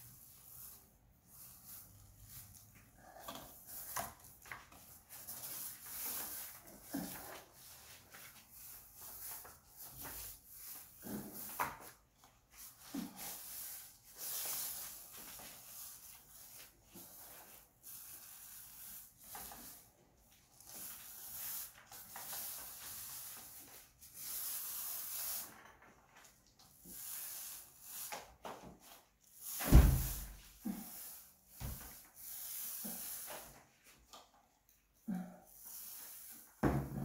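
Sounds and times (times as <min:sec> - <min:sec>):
paint roller hissing: 0:00.0 - 0:34.2, 0:35.5 - 0:36.9.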